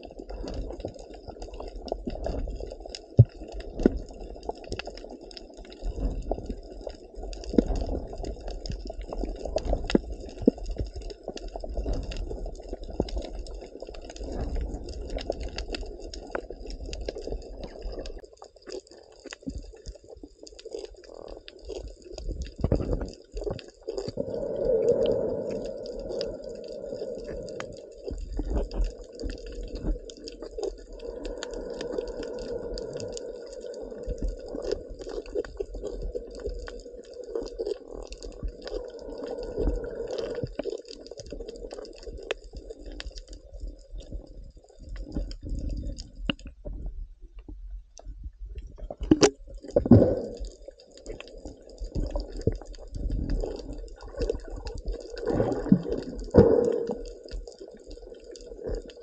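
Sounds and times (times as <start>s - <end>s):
underwater clicks and crackles: 0.0s - 59.0s
underwater water movement: 0.0s - 59.0s.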